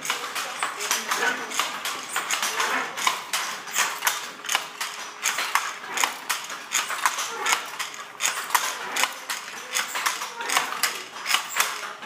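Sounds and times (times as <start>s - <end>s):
wooden loom clatter: 0.0s - 12.0s.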